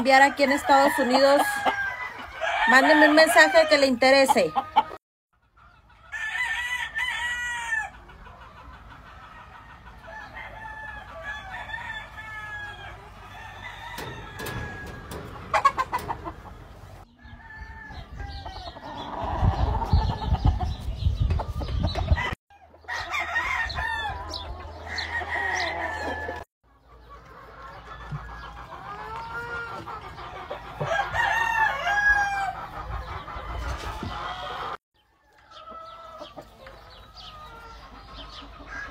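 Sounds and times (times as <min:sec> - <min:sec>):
chickens clucking and crowing: 0:00.0 - 0:38.9.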